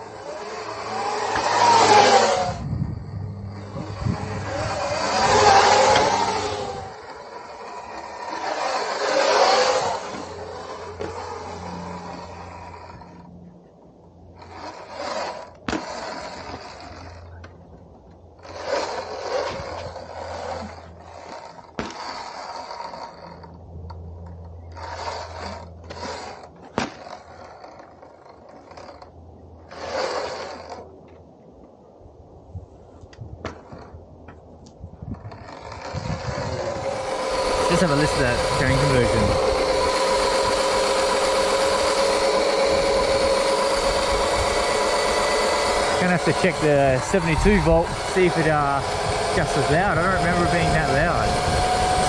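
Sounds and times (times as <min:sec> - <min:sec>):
electric motor hum: 0:00.0 - 0:31.8, 0:32.6 - 0:52.0.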